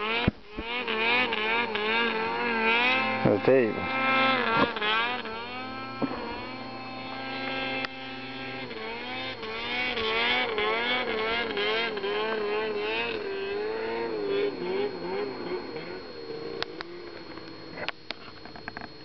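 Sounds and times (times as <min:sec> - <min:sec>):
snowmobile engine revving: 0:00.0 - 0:18.3.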